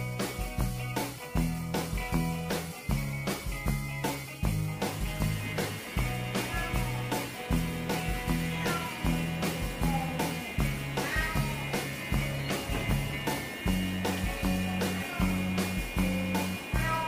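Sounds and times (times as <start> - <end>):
music with guitar bass and drums: 0.0 - 17.0.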